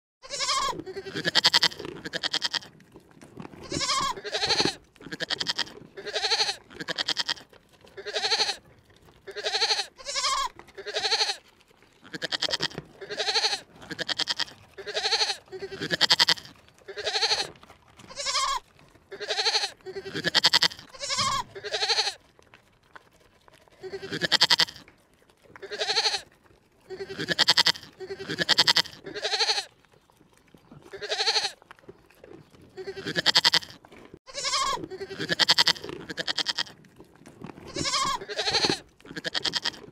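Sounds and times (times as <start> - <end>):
animal bleating: 0.2 - 2.7, 3.6 - 8.6, 9.2 - 22.3, 23.7 - 24.9, 25.6 - 29.7, 30.6 - 31.7, 32.4 - 36.8, 37.6 - 39.9.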